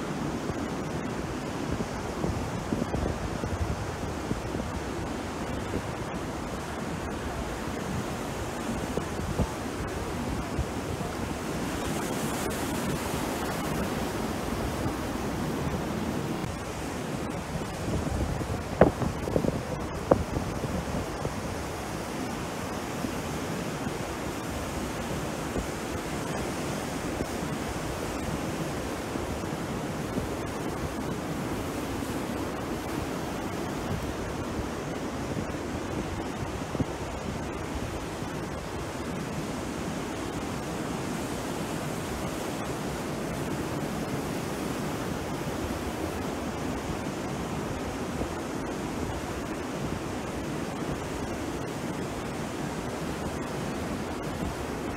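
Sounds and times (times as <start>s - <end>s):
waves breaking on a beach: 0.0s - 54.9s.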